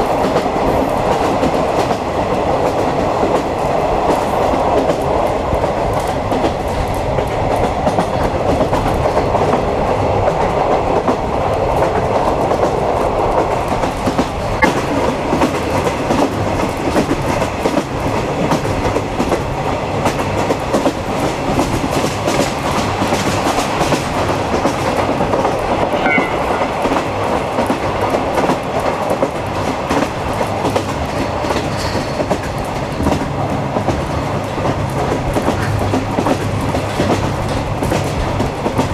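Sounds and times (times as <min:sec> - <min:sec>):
train rumble: 0:00.0 - 0:38.9
wheels clacking over rail joints: 0:00.0 - 0:38.9.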